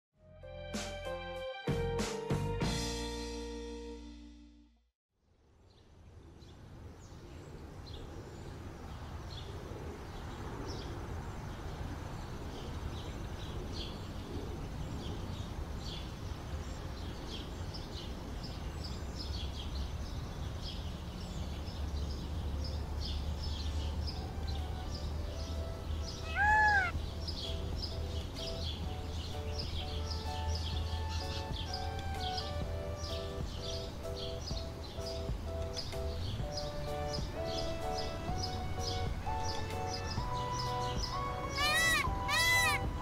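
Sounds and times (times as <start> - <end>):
small birds chirping: 5.6 - 43.0.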